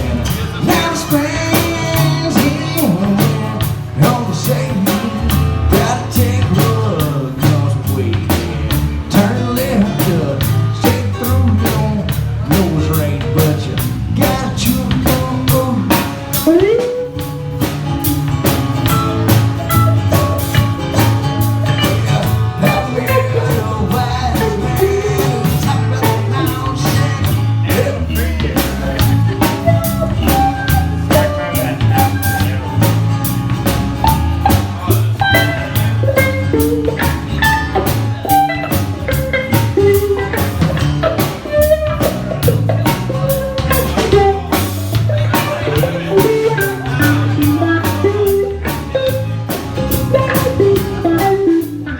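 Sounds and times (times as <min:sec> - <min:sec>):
band playing: 0:00.0 - 0:51.9
drum kit beat: 0:00.0 - 0:51.9.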